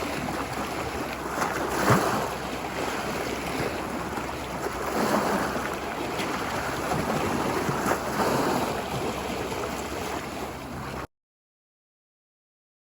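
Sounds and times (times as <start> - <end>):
ocean waves washing ashore: 0.0 - 11.1.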